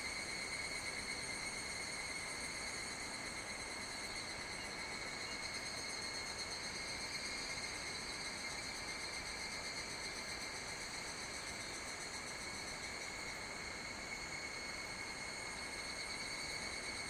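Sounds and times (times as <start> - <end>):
chorus of insects: 0.0 - 17.0.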